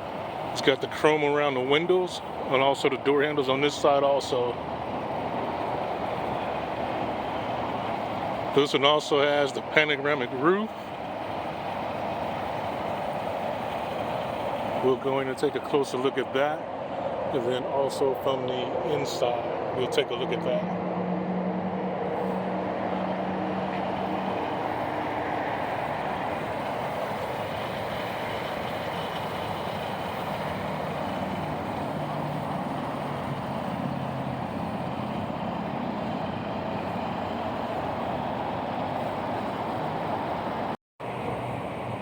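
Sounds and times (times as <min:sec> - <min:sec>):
traffic and engines running: 0:00.0 - 0:42.0.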